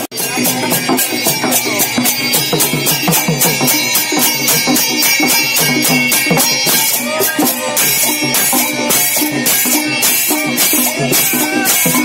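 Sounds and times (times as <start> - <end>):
barrel hand drum: 0.0 - 12.0
brass hand cymbals clashing: 0.0 - 12.0
small cymbals: 0.0 - 12.0.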